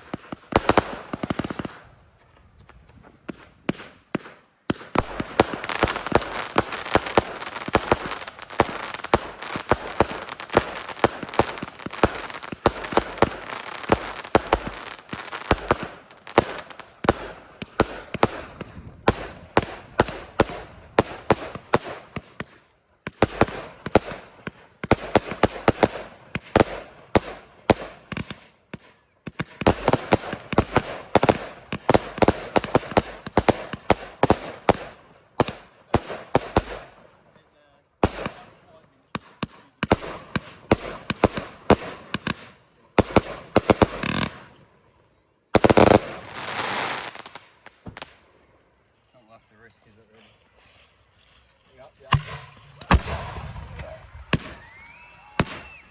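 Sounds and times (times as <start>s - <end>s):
fireworks banging and crackling: 0.0s - 37.3s, 38.0s - 44.8s, 45.5s - 48.3s, 49.0s - 55.9s.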